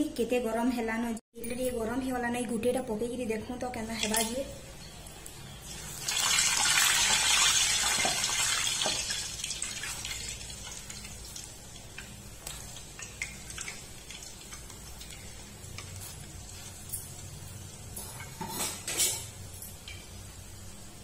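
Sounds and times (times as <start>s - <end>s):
hot oil sizzling: 3.9s - 21.0s.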